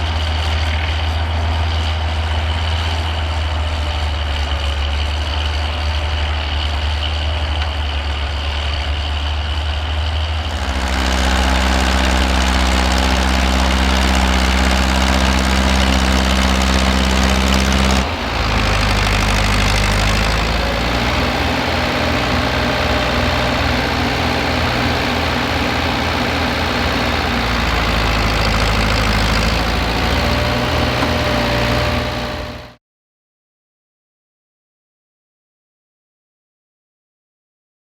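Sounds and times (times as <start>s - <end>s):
tractor engine running: 0.0s - 32.8s.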